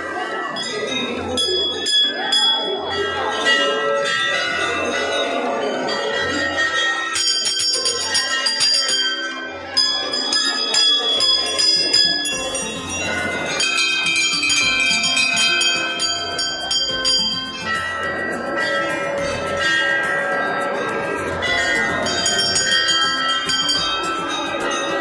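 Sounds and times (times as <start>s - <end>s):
bells ringing in a dense jangle: 0.0s - 25.0s.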